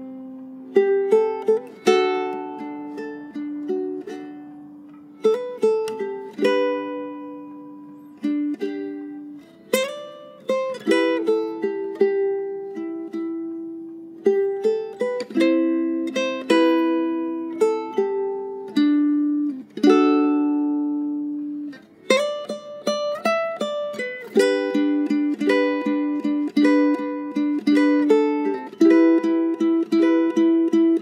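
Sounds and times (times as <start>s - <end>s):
fingerpicked ukulele: 0.0s - 31.0s.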